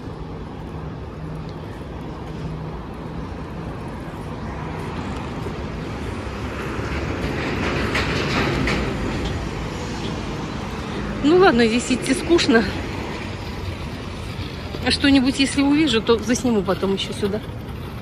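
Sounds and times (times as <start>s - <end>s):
city bus passing close by: 0.0s - 18.0s
street traffic noise: 0.0s - 18.0s.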